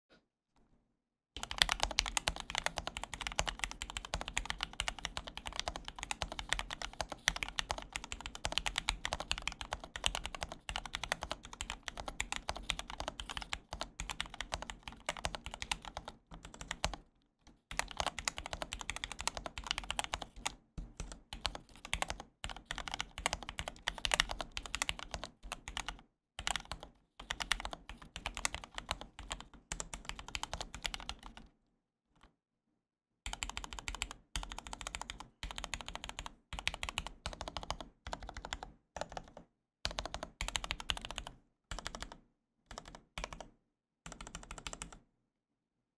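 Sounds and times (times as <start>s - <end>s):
mechanical keyboard typing: 1.4s - 17.1s, 17.7s - 31.4s, 33.3s - 43.5s, 44.1s - 45.0s.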